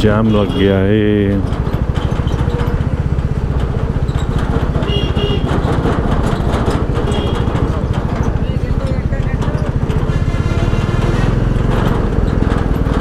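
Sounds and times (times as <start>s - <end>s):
motorcycle engine ticking over: 0.0s - 13.0s.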